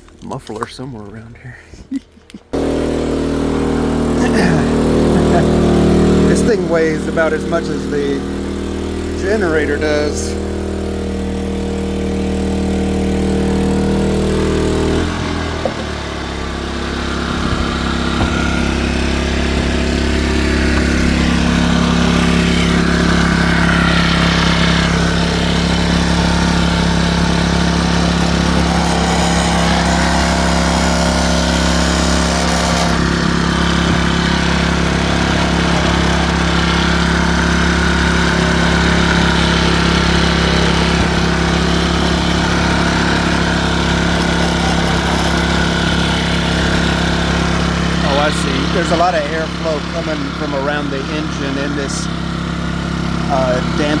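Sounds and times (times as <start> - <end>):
generator engine running: 2.4 - 54.0.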